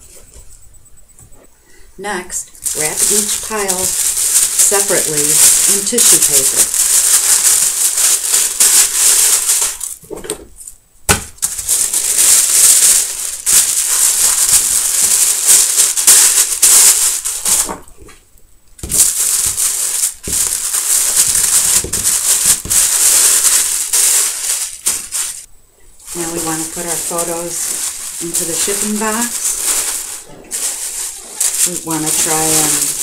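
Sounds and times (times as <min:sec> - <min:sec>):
tissue paper crinkling: 0:02.4 - 0:10.1, 0:11.4 - 0:17.8, 0:18.8 - 0:33.0.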